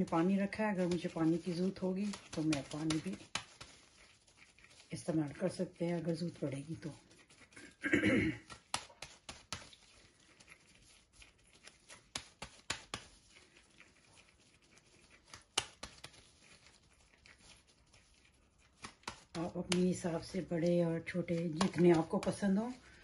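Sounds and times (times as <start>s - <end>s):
wet pats of hands on mixture: 0.0s - 7.6s, 8.4s - 23.0s.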